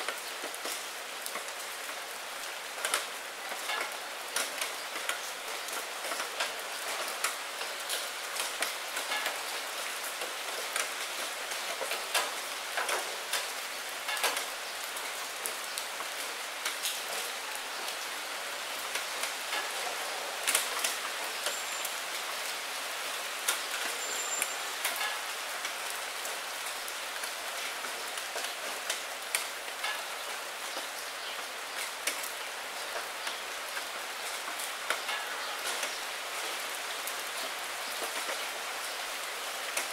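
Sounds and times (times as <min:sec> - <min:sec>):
raindrops tapping: 0:00.0 - 0:18.1, 0:18.8 - 0:22.4, 0:23.4 - 0:38.9
rain on a glass window: 0:00.0 - 0:39.9.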